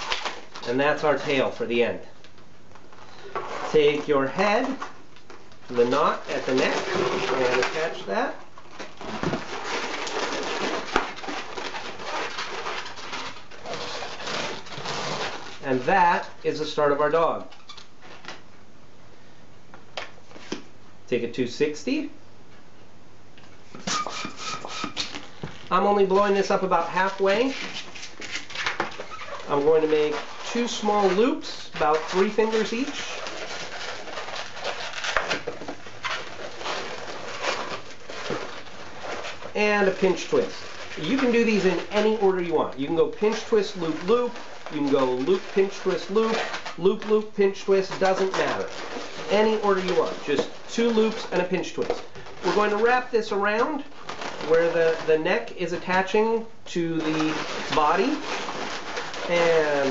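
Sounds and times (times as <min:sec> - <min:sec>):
balloons squeaking and rubbing: 0:00.0 - 0:18.5, 0:23.6 - 0:59.9.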